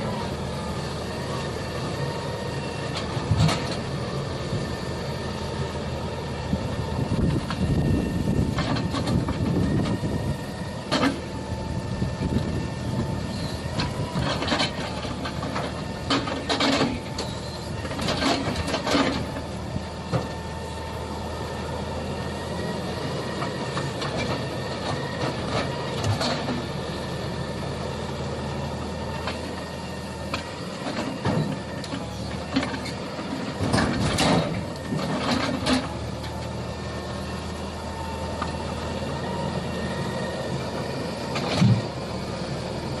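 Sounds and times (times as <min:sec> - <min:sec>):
hydraulic whine: 0:00.0 - 0:43.0.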